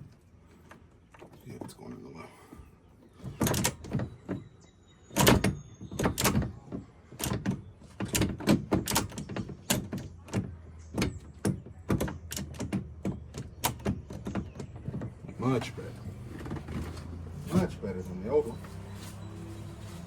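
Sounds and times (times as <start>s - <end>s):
gear shift lever clunking: 3.2s - 19.8s.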